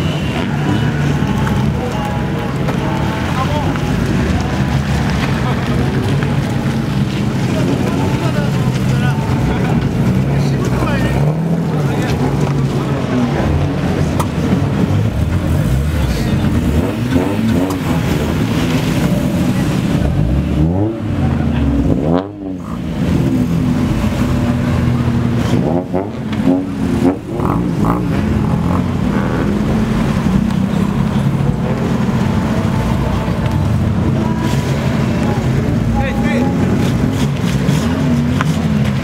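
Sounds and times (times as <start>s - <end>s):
cars revving past: 0.0s - 39.0s.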